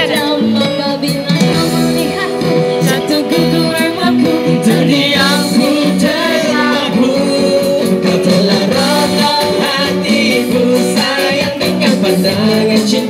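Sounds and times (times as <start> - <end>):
electric bass and guitar: 0.0 - 13.0
woman and man singing duet: 0.0 - 13.0.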